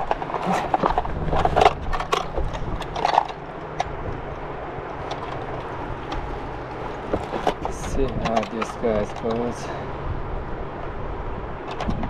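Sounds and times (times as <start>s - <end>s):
sharp clicks and knocks: 0.0s - 9.6s, 11.6s - 12.0s
wind: 0.0s - 12.0s.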